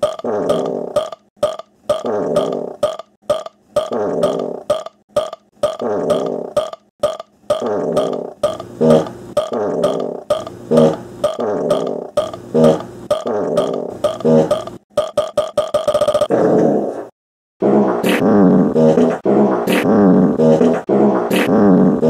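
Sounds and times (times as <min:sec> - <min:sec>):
looping burps: 0:00.0 - 0:16.7, 0:17.6 - 0:22.0.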